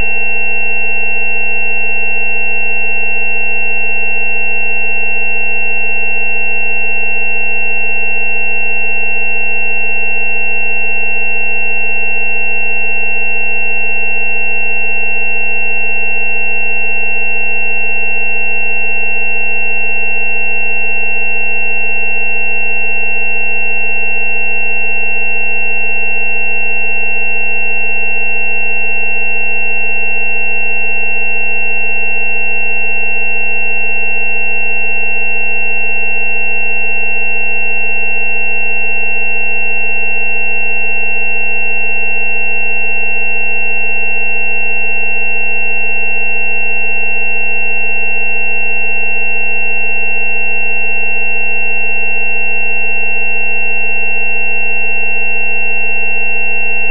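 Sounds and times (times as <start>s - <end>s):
high steady sine tones: 0.0s - 56.9s
low sine tone: 0.0s - 56.9s.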